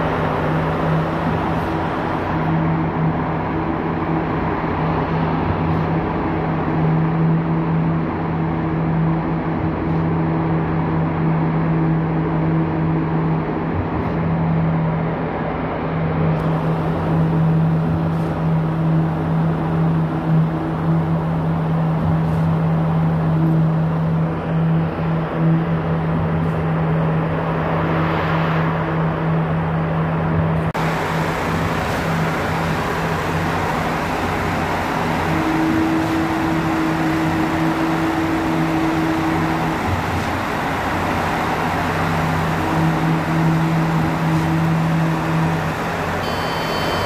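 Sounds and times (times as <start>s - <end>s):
machinery engine droning: 0.0s - 47.0s.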